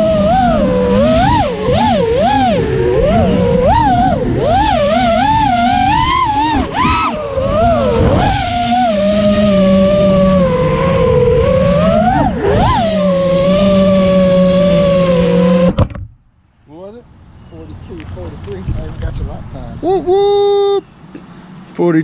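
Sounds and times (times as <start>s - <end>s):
quadcopter motors whining: 0.0s - 15.8s, 17.4s - 20.9s.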